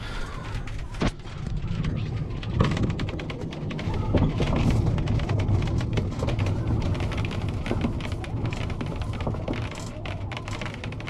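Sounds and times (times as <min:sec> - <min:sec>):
raindrops ticking on glass: 0:01.0 - 0:11.0.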